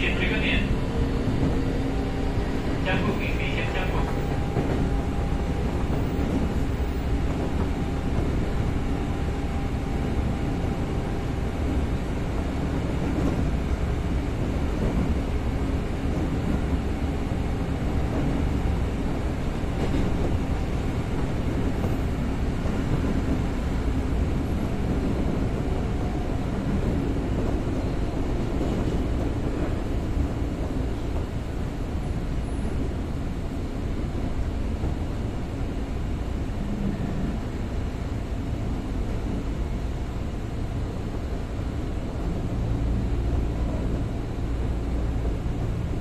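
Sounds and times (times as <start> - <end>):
train motor and gear noise: 0.0 - 46.0
train wheels rumbling on rail: 0.0 - 46.0.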